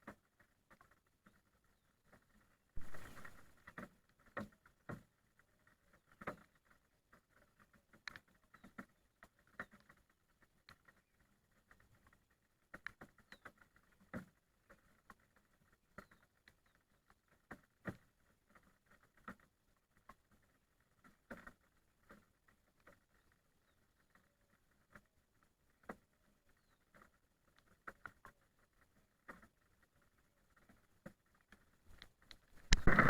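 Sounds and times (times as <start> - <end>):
raindrops tapping on a surface: 0.0 - 33.0.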